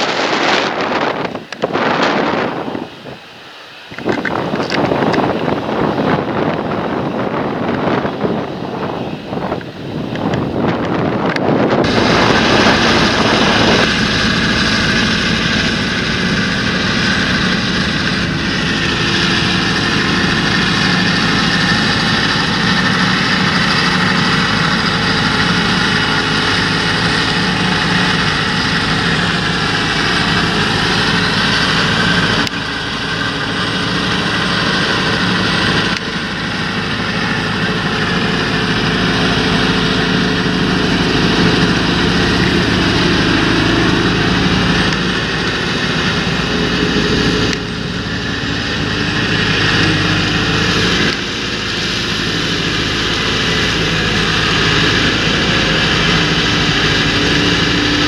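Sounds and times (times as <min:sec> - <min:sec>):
high whine: 0:00.0 - 0:58.0
tractor diesel engine running: 0:00.0 - 0:58.0.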